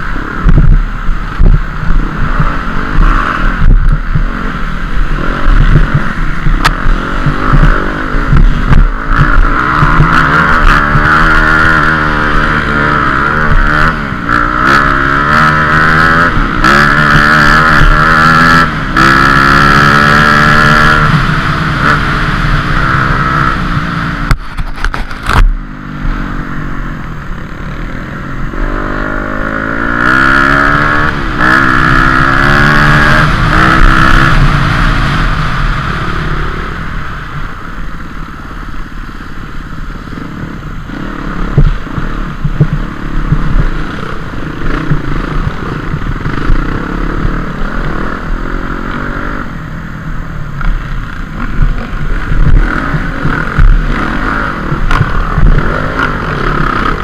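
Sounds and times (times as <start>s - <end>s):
dirt bike engine revving: 0.0s - 27.0s, 27.7s - 37.2s, 40.1s - 57.0s.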